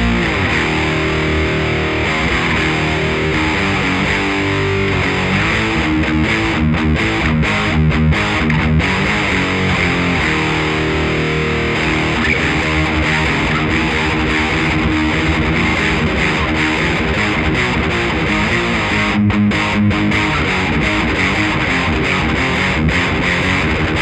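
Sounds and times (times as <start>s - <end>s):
distorted electric guitar: 0.0s - 24.0s.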